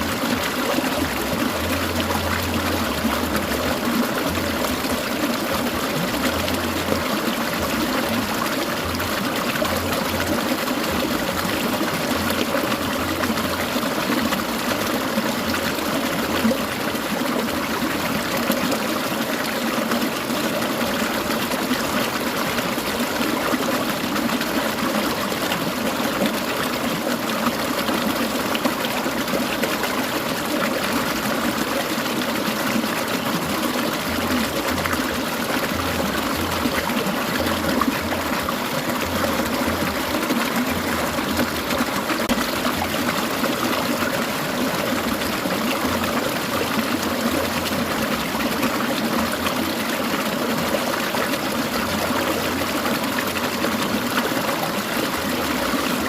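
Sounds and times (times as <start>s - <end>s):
stream burbling over rocks: 0.0s - 56.0s.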